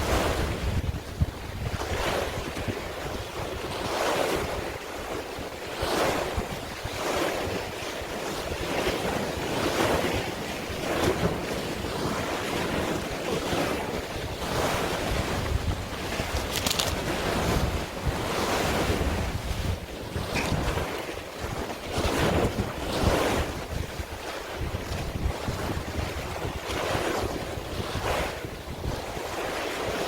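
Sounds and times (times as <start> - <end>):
sea waves splashing: 0.0 - 30.0
wind buffeting microphone: 0.0 - 30.0.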